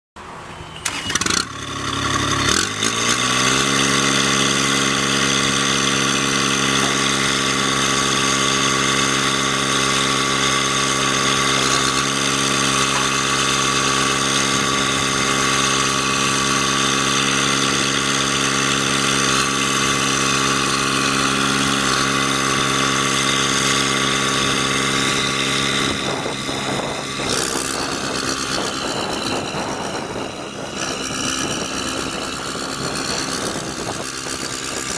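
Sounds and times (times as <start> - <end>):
diesel engine cranking and running: 0.2 - 34.9.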